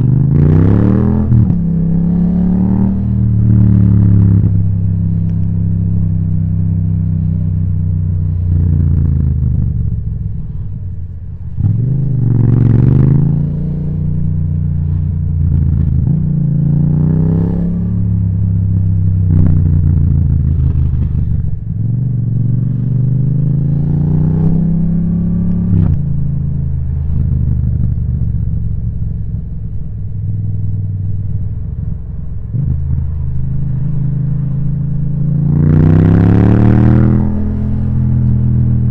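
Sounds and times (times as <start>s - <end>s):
motorcycle engine revving: 0.0s - 10.6s, 11.4s - 29.4s, 30.2s - 38.9s.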